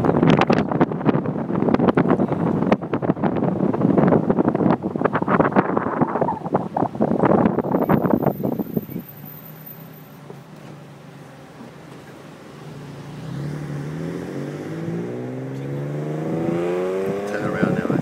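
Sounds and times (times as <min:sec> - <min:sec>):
car engine accelerating: 0:01.1 - 0:18.0.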